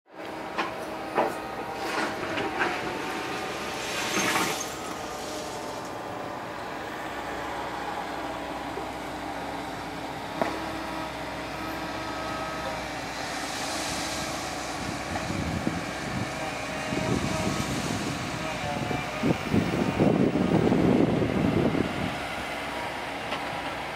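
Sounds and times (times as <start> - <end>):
distant construction machinery hum: 0.1 - 23.9.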